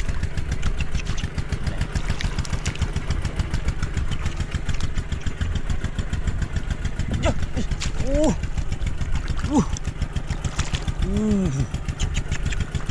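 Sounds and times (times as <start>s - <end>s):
small engine idling: 0.0s - 12.9s.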